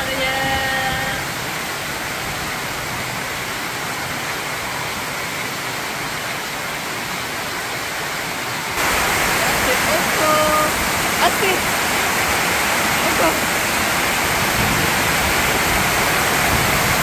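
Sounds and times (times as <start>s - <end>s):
heavy rain on a metal roof: 0.0s - 17.0s.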